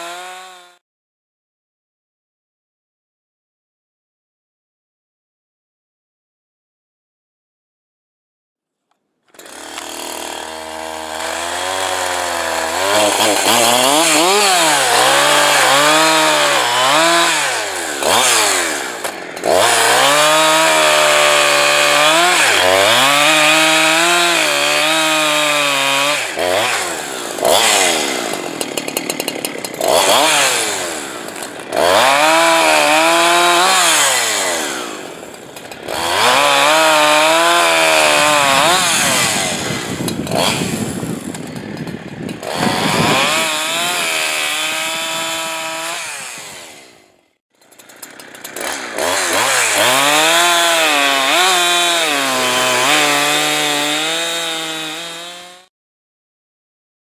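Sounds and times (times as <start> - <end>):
chainsaw cutting wood: 0.0 - 0.8, 9.3 - 55.7.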